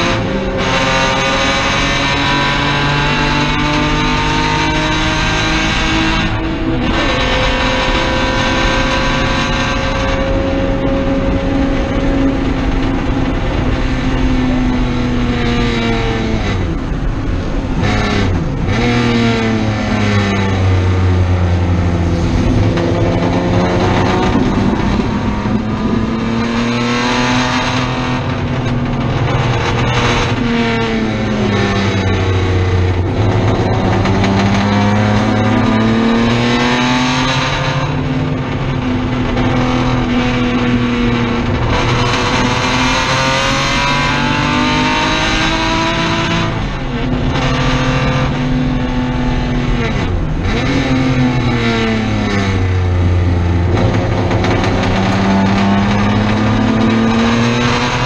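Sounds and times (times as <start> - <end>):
race car engine at high revs: 0.0 - 58.0.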